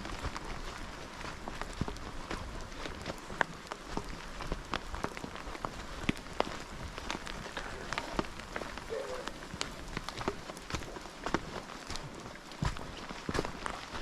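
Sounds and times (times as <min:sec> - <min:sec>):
raindrops ticking near microphone: 0:00.0 - 0:14.0
rain hiss: 0:02.0 - 0:13.8.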